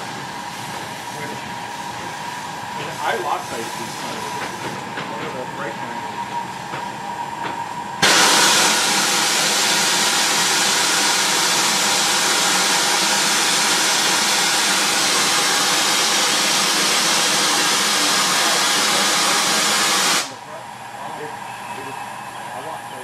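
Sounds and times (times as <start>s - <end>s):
steam venting hiss: 0.0s - 20.4s.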